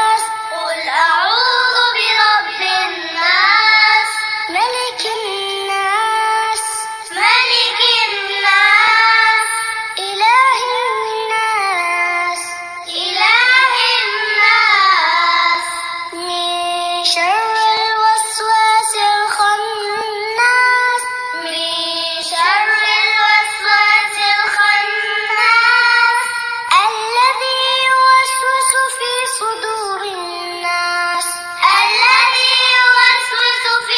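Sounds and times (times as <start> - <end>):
child chanting melodically: 0.0 - 33.9.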